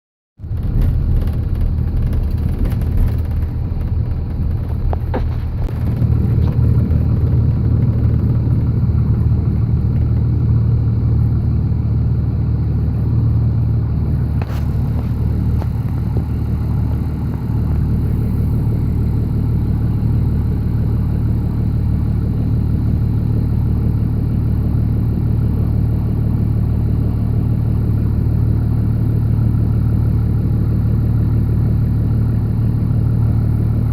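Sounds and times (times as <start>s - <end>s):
wind rumble: 0.4s - 28.3s
helicopter rotor drone: 1.2s - 33.9s.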